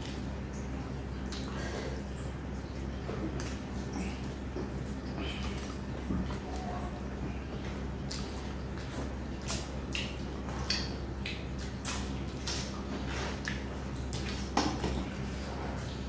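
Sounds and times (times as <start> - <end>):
wet chewing smacks: 1.2 - 2.2, 3.1 - 16.0.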